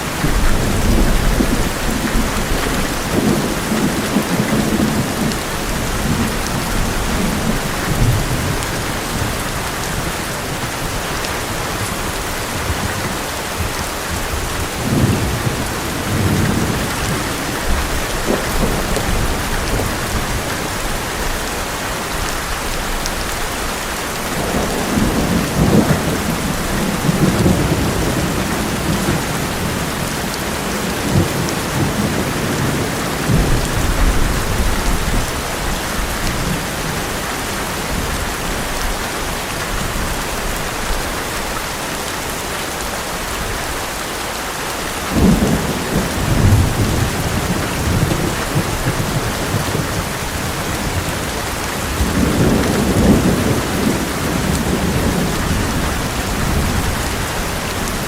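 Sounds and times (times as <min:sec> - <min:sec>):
thunder rumbling: 0:00.0 - 0:21.3, 0:24.2 - 0:37.2, 0:45.0 - 0:58.0
heavy rain on metal roof: 0:00.0 - 0:58.0.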